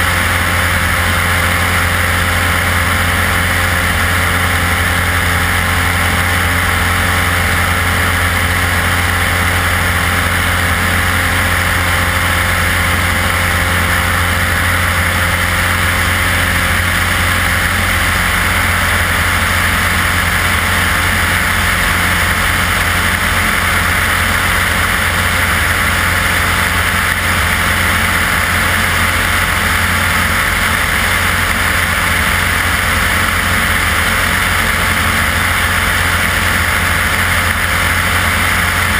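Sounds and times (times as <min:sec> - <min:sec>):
propeller engine drone: 0:00.0 - 0:38.9.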